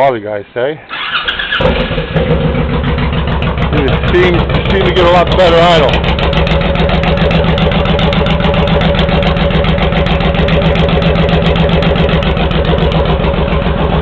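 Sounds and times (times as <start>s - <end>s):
motorcycle engine idling: 1.2s - 14.0s.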